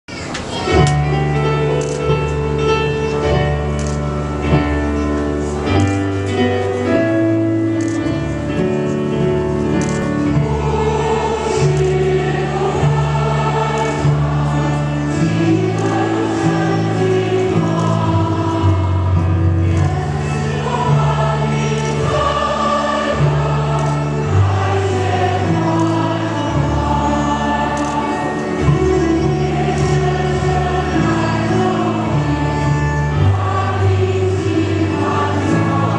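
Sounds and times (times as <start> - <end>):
choir singing a hymn: 0.6 - 35.9
held low accompaniment notes: 0.7 - 35.9.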